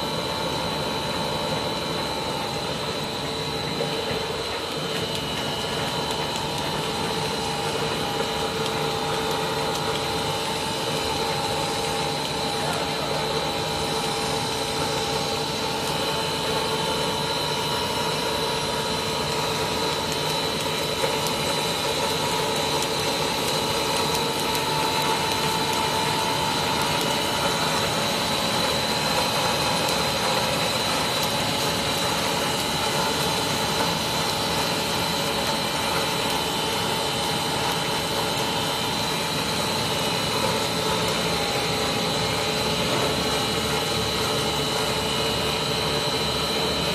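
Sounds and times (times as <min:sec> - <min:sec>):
machine drone with whining tones: 0:00.0 - 0:46.9.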